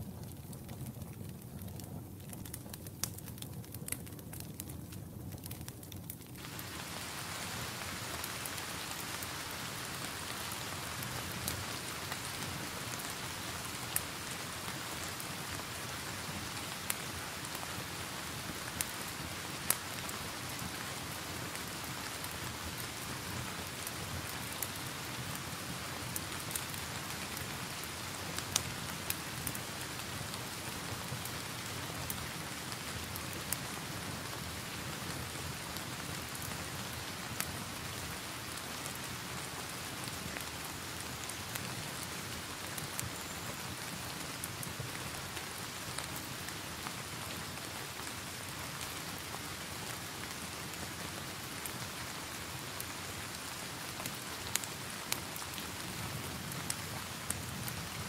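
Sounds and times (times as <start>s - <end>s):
log fire popping and crackling: 0.0s - 58.0s
steady dense rain: 0.0s - 58.0s.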